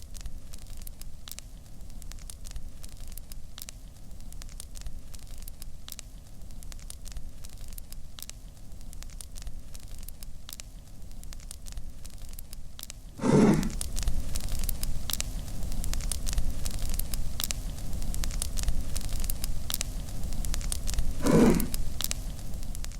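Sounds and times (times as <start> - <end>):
small crackles and clicks: 0.0 - 22.9.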